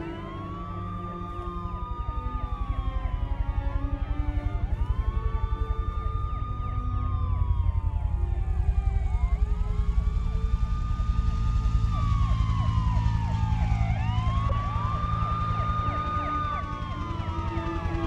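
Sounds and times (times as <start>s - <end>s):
low throbbing rumble: 0.0s - 18.0s
police sirens wailing: 0.0s - 18.0s.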